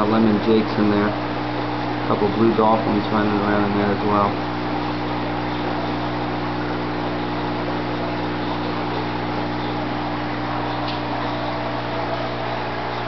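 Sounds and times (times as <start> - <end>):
aquarium pumps humming: 0.0 - 13.0.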